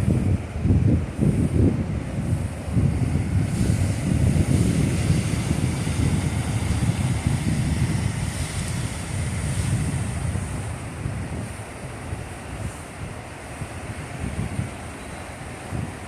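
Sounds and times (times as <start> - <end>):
surf washing against rocks: 0.0 - 16.0
wind buffeting microphone: 0.0 - 16.0.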